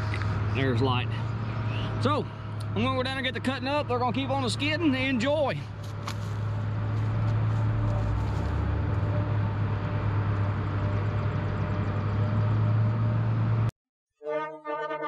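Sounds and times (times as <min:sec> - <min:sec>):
heavy diesel machinery droning: 0:00.0 - 0:13.7.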